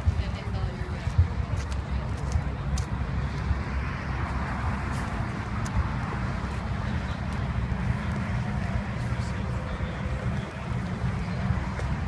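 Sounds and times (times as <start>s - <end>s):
car passing with tyre noise: 1.4s - 12.0s.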